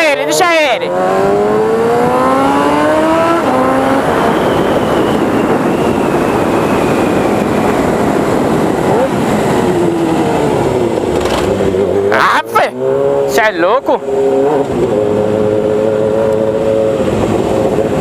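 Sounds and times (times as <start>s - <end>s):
motorcycle engine accelerating: 0.0s - 18.0s
wind rush: 0.4s - 18.0s.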